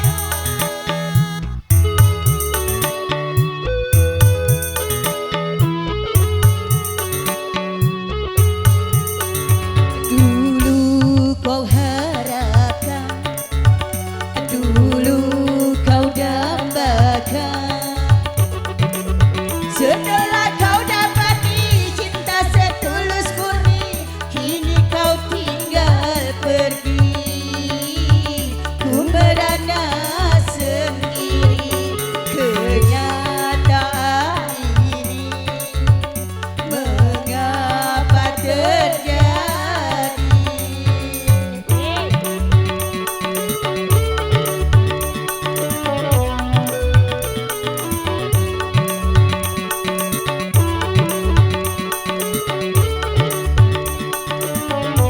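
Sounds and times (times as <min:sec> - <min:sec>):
band playing dangdut music: 0:00.0 - 0:55.0
drum and bass beat: 0:00.0 - 0:55.0
melody with wavering vibrato: 0:00.0 - 0:55.0.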